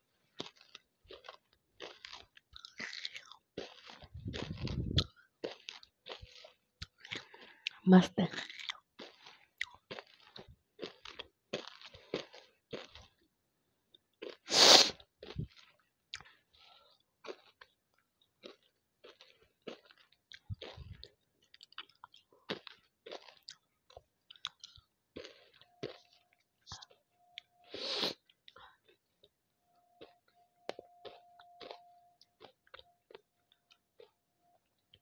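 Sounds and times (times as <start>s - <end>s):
crunching and chewing: 0.0s - 35.0s.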